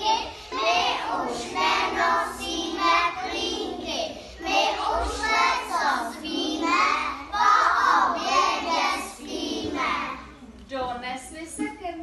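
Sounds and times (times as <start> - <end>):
young children singing: 0.0 - 10.4.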